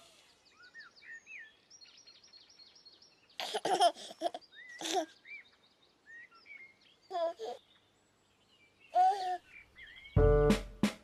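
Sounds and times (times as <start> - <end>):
small birdsong chirps: 0.0 - 10.6.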